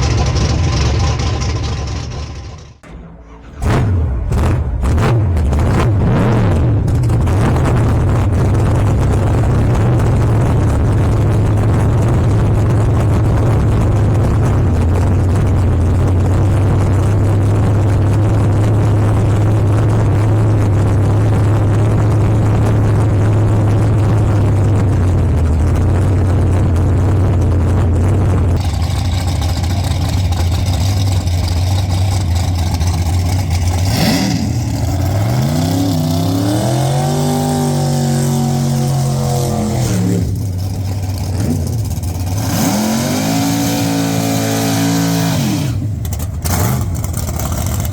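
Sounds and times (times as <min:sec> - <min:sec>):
race car engine idling: 0:00.0 - 0:47.9.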